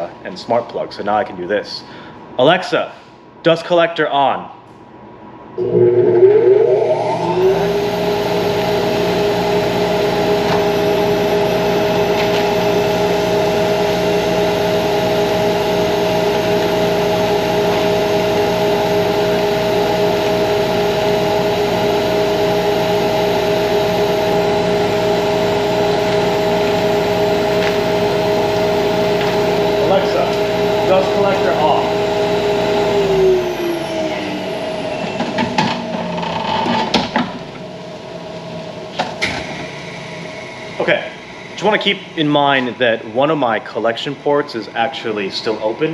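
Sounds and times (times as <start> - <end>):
dust collector blower humming: 5.6 - 36.1, 37.9 - 45.9.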